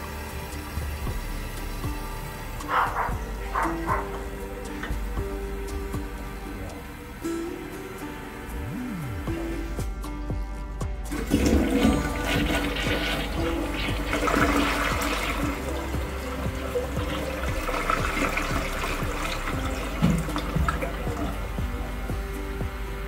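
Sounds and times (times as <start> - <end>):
toilet flushing: 0.0 - 7.0, 11.1 - 23.0.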